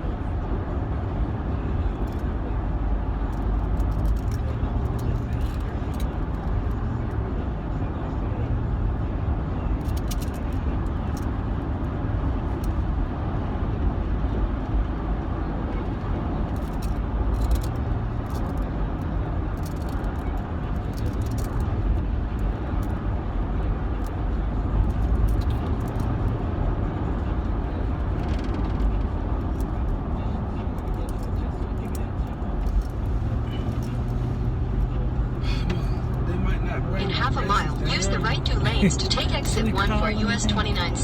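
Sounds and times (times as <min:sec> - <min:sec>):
car cabin road and engine noise: 0:00.0 - 0:41.0.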